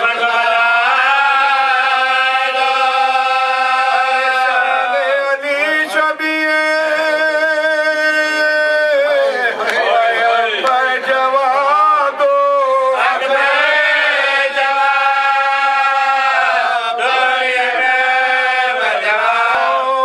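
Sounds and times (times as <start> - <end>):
man chanting a lament: 0.0 - 20.0.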